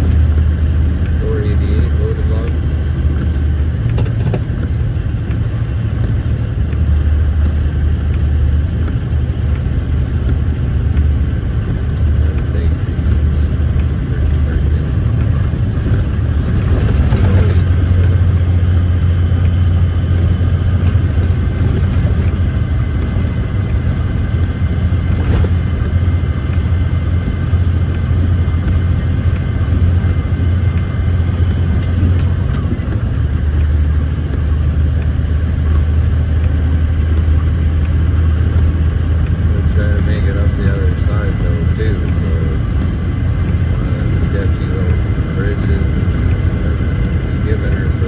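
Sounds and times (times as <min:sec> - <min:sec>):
diesel engine drone: 0:00.0 - 0:48.0
road rumble: 0:00.0 - 0:48.0.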